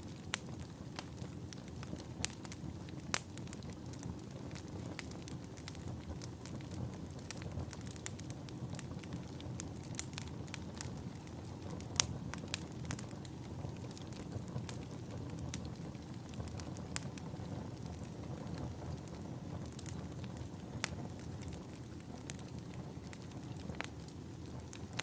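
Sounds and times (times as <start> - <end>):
wood fire crackling and snapping: 0.0 - 25.0.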